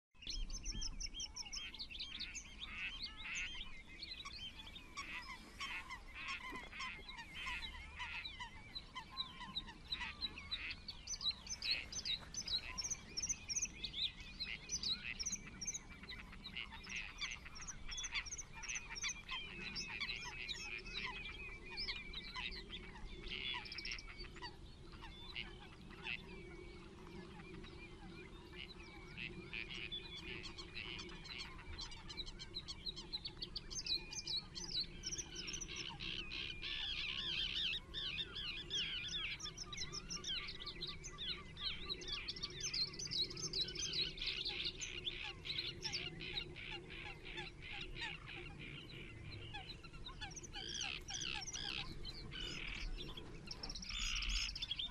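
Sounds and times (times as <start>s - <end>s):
lower repeated bird calls: 0.2s - 54.9s.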